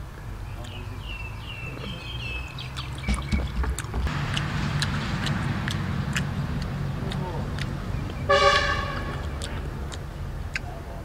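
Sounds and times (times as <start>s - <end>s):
bird chirping: 0.0s - 11.0s
vehicle engine humming: 0.0s - 11.0s.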